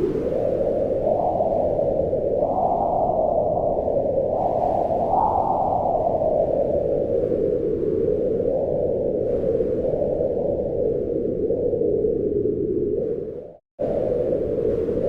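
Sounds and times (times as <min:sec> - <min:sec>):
wind blowing in gusts: 0:00.0 - 0:15.0.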